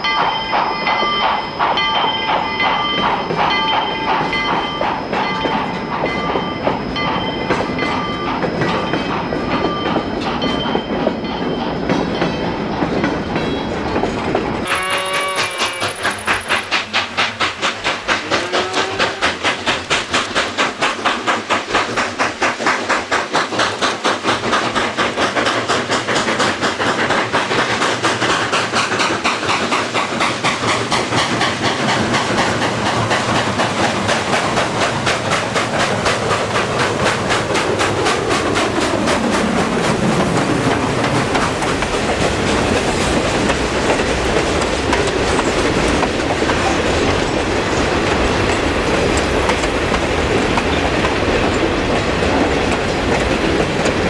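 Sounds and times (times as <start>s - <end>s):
steam train chugging: 0.0s - 54.0s.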